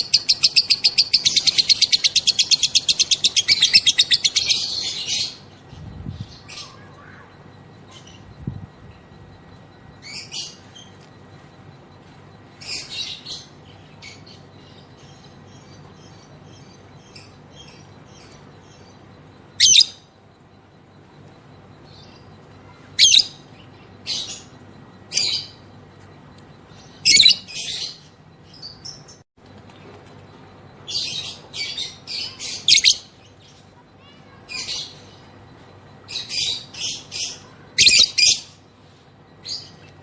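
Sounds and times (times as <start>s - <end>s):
bird chirping: 0.0s - 40.0s.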